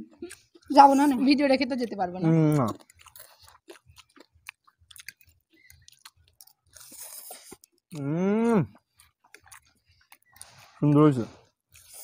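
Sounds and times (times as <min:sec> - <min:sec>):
people chewing noodles: 0:00.0 - 0:12.0.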